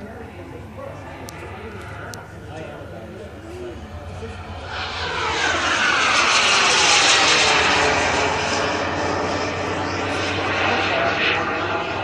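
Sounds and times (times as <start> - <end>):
model jet turbine fly-by: 0.0 - 12.0.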